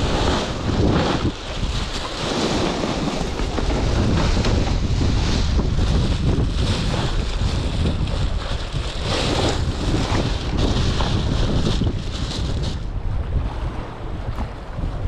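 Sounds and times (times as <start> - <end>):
plastic bag of ice rustling: 0.0 - 12.9
sea surf: 0.0 - 15.0
wind buffeting microphone: 0.0 - 15.0.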